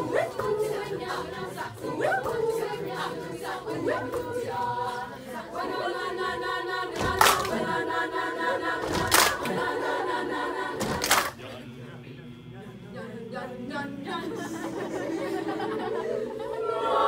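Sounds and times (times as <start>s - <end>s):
choir singing a cappella: 0.0s - 17.0s.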